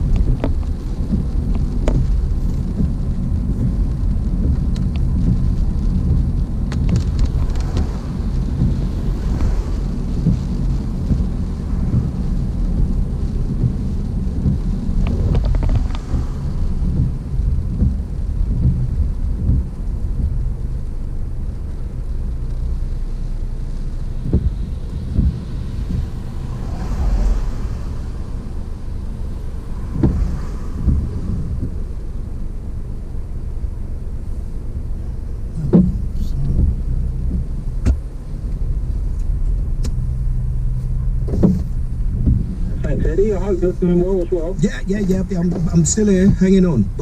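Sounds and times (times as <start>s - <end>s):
heavy rain on a car: 0.0s - 47.0s
low road rumble: 0.0s - 47.0s.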